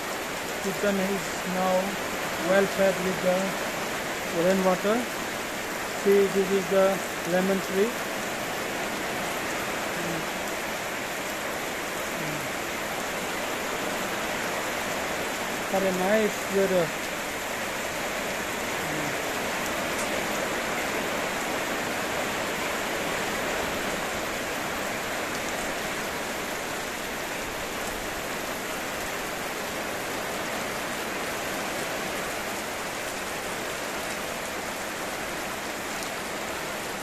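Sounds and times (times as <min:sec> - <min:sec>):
heavy rain on trees and ground: 0:00.0 - 0:37.0.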